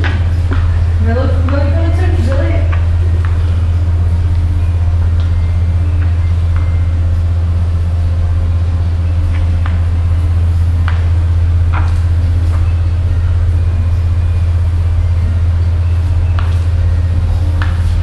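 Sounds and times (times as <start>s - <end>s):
loud low hum: 0.0s - 18.0s.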